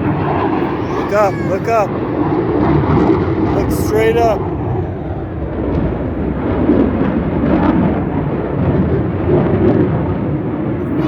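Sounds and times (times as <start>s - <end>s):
jet engine roar overhead: 0.0s - 11.0s.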